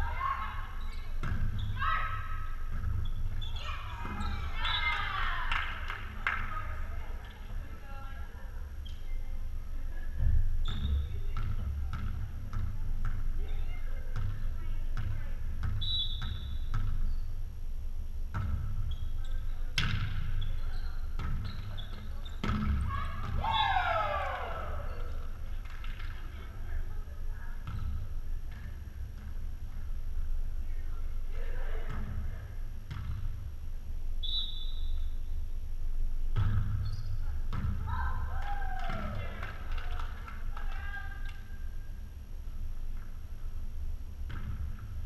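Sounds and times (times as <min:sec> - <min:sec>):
steady low hum: 0:05.7 - 0:38.4, 0:41.3 - 0:45.0.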